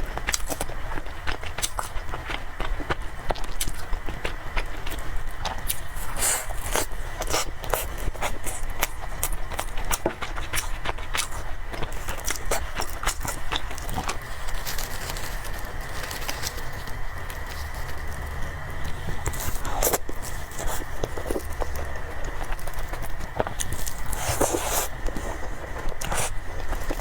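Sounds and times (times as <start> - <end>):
chewing noises: 0.0 - 27.0.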